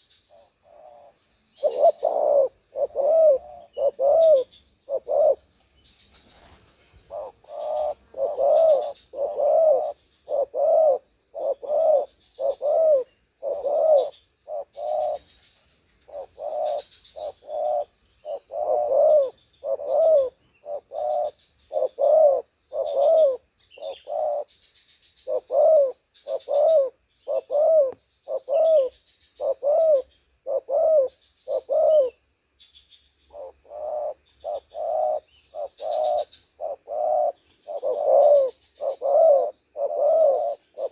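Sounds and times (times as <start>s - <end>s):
doves cooing: 0.0s - 5.6s, 6.2s - 24.6s, 25.2s - 32.2s, 33.3s - 40.9s.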